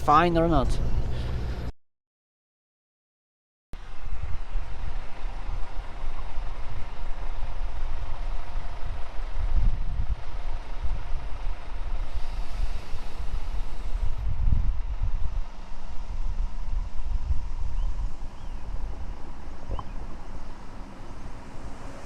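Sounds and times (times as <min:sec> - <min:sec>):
truck engine rumble in cab: 0:00.0 - 0:01.7, 0:03.8 - 0:22.0.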